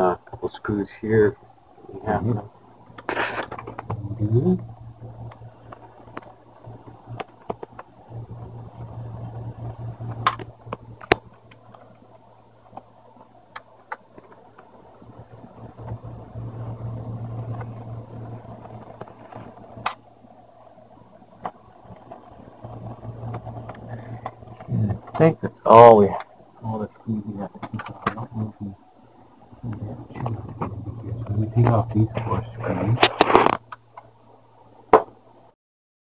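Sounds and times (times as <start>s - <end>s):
steady low hum: 0.0s - 35.6s.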